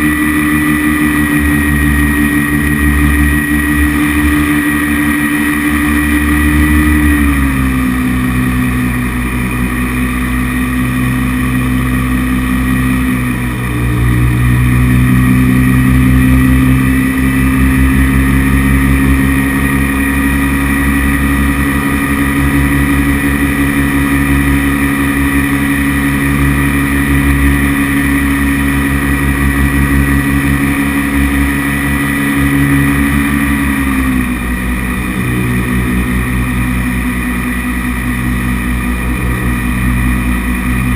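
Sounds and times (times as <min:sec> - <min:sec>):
paramotor engine and propeller running: 0:00.0 - 0:40.9.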